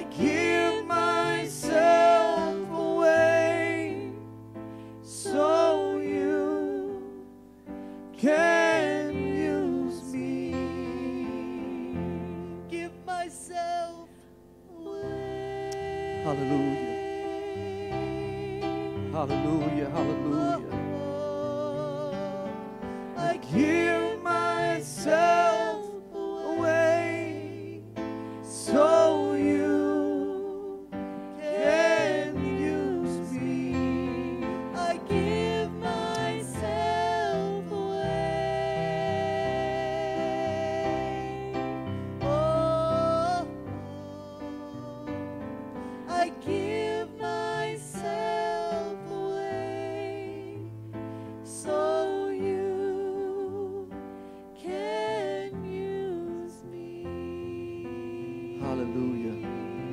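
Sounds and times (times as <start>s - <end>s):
gospel singing with vibrato: 0.0s - 59.9s.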